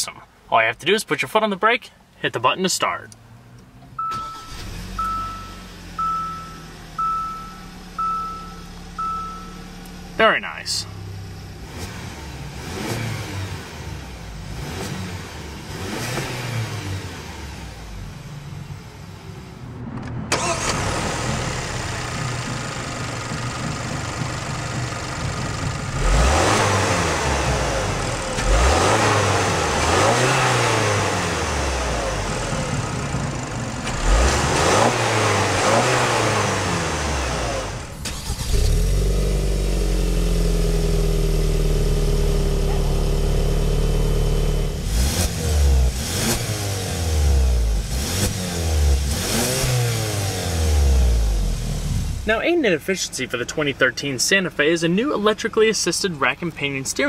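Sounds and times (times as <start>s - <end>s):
car engine idling and revving: 3.1s - 57.0s.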